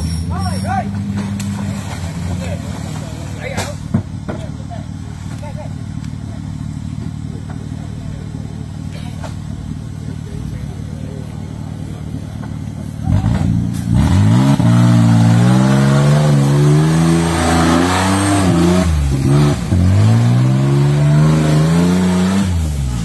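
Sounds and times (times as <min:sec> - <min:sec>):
off-road truck engine revving: 0:00.0 - 0:23.0.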